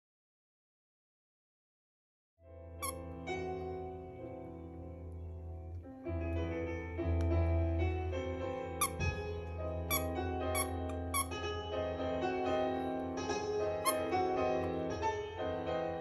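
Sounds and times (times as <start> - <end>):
piano background music: 2.4 - 16.0.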